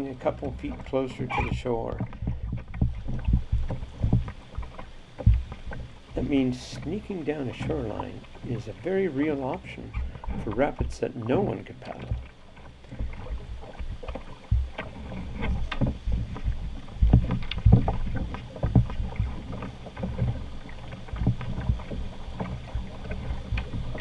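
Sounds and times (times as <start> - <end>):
knocks and splashes: 0.0 - 24.0
river water rushing around hull: 0.0 - 24.0.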